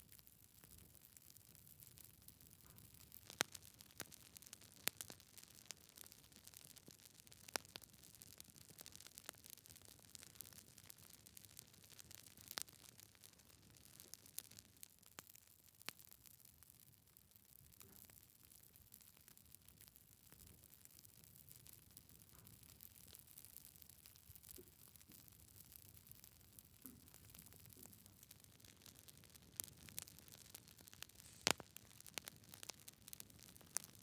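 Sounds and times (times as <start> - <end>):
faint steady hiss: 0.0 - 34.0
log fire crackling: 0.0 - 34.0.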